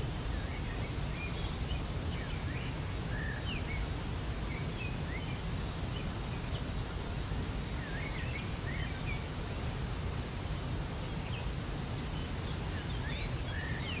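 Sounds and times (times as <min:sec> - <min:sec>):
small birds chirping: 0:00.0 - 0:14.0
waterfall rushing: 0:00.0 - 0:14.0.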